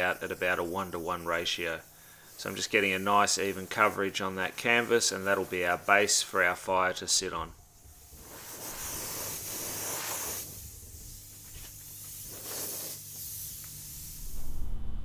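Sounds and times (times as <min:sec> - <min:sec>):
airbrush air hissing: 0:00.0 - 0:14.6.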